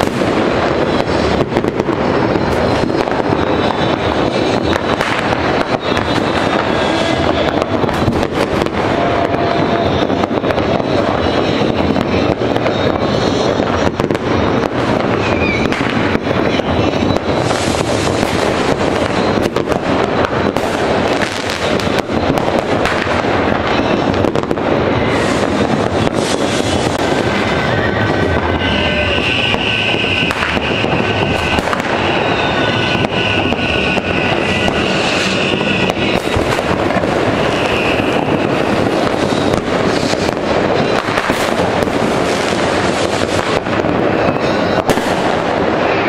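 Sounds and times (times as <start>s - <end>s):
fireworks and firecrackers banging: 0.0s - 46.0s
rocket whistles: 0.0s - 46.0s.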